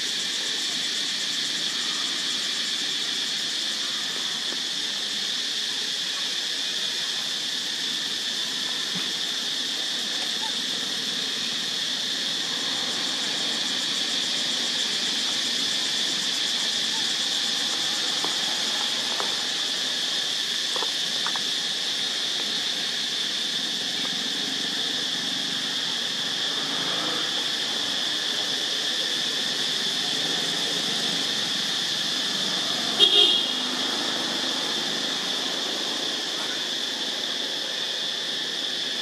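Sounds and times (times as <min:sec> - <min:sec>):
insects buzzing: 0:00.0 - 0:39.0.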